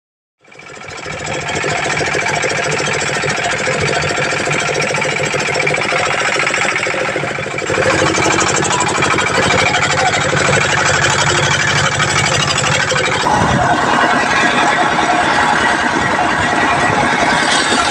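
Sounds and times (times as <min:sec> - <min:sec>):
engine knocking: 0:00.4 - 0:17.9.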